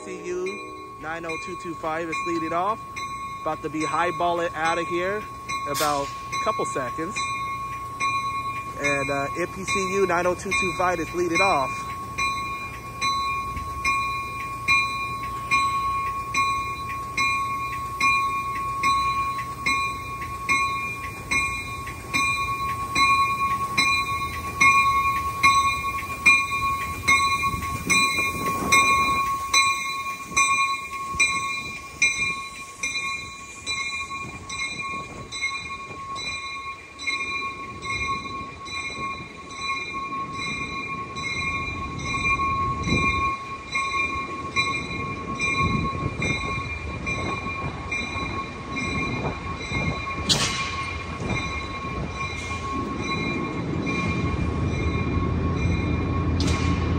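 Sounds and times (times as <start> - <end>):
train cars rumbling past: 0.0 - 56.9
warning bell ringing: 0.0 - 56.9.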